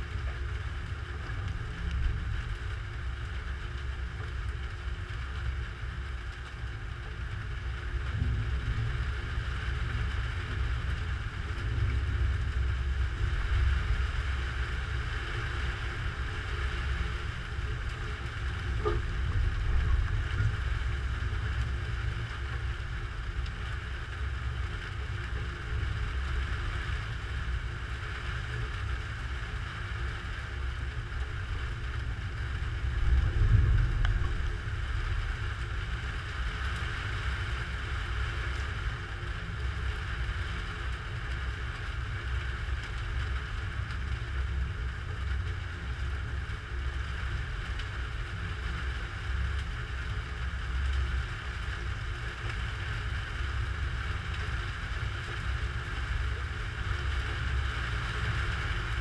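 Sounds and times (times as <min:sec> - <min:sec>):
low rumble of wind: 0:00.0 - 0:59.0.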